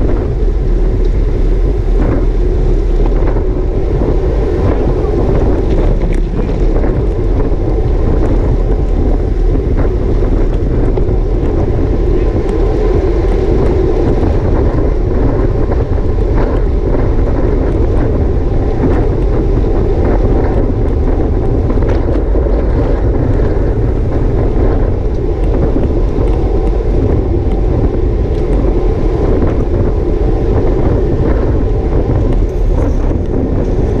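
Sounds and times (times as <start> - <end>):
road and tyre rumble: 0.0 - 34.0
wind rushing over microphone: 0.0 - 34.0.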